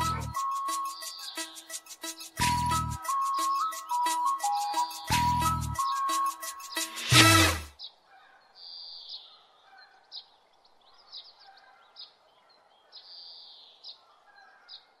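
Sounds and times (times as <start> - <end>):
birds chirping: 0.0 - 15.0
faint outdoor background noise: 0.0 - 15.0.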